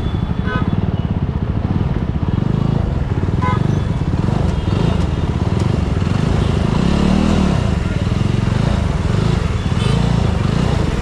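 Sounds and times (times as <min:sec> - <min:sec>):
motorcycle engine revving: 0:01.6 - 0:11.0.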